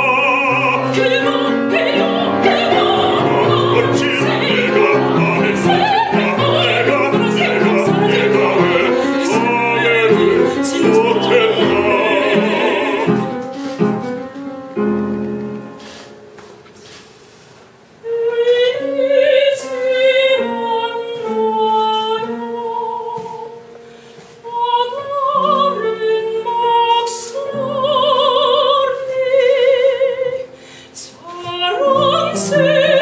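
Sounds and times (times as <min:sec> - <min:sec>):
woman singing opera: 0:00.0 - 0:14.0, 0:18.0 - 0:33.0.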